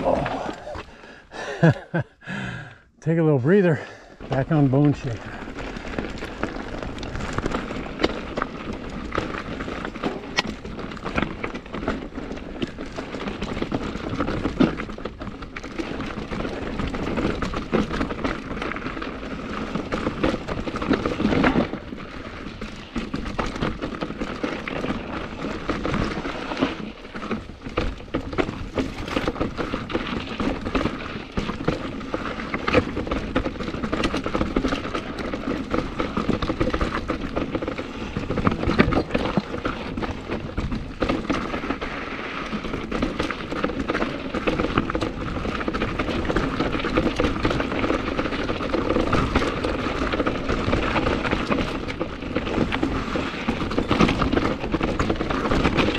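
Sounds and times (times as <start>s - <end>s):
bike tyres on rock: 0.0s - 55.9s
bike chain and frame rattling: 4.3s - 55.9s.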